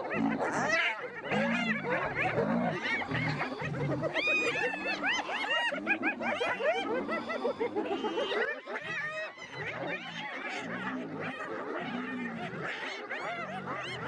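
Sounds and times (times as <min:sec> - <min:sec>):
hyenas giggling: 0:00.0 - 0:14.0
low rhythmic growling: 0:00.0 - 0:14.0.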